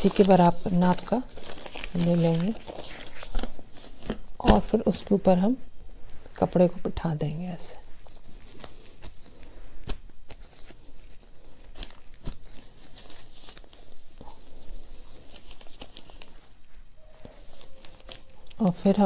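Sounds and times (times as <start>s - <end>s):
cloth rustling on newspaper: 0.0s - 5.6s, 7.4s - 19.0s.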